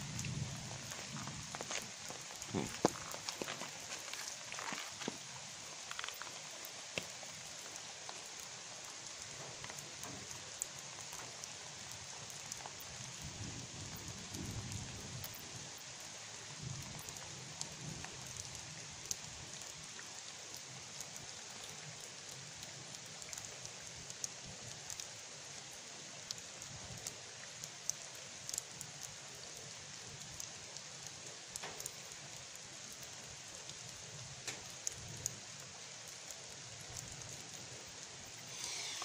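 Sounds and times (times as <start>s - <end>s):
light rain hissing: 0.0s - 39.0s
raindrops ticking: 0.0s - 39.0s.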